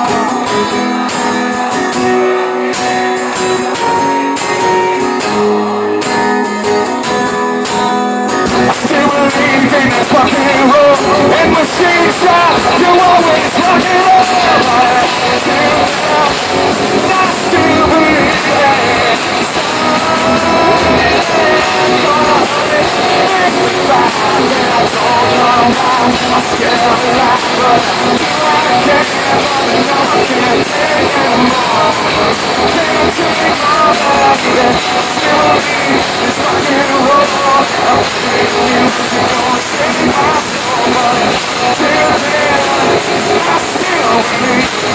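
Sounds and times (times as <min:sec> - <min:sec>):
distorted electric guitars: 0:00.0 - 0:44.9
drum kit: 0:00.0 - 0:44.9.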